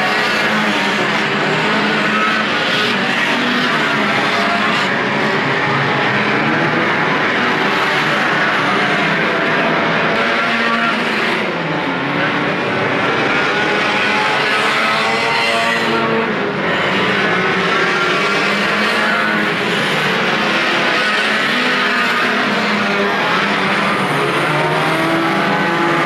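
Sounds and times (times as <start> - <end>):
racing car engines revving: 0.0 - 26.0.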